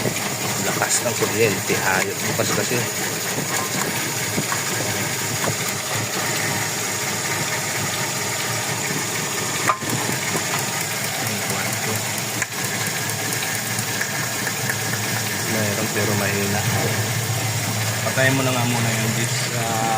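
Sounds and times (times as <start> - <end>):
petrol engine idling with misfire: 0.0 - 19.9.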